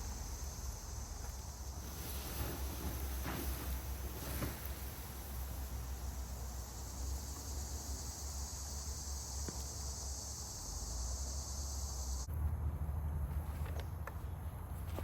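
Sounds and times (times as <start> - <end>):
insect chorus trilling: 0.0 - 12.3.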